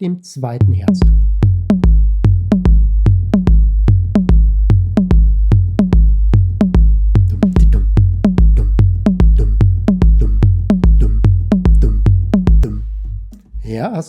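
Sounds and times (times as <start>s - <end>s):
heartbeat with gallop sound: 0.6s - 13.2s.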